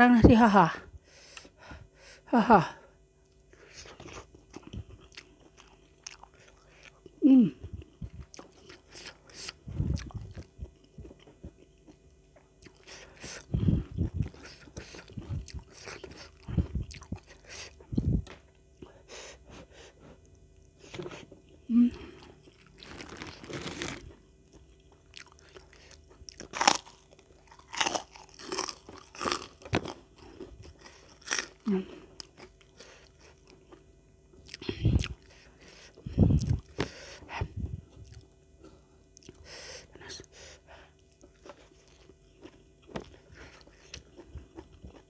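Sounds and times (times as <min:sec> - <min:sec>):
chewing food: 0:03.3 - 0:18.9, 0:20.2 - 0:36.9, 0:37.9 - 0:38.3, 0:39.1 - 0:39.4, 0:40.9 - 0:45.0.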